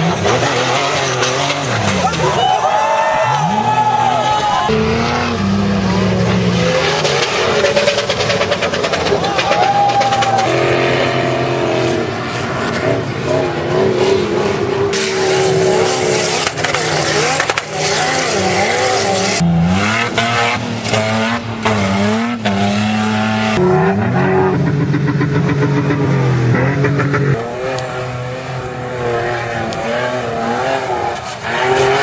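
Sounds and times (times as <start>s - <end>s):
suv engines revving: 0.0s - 32.0s.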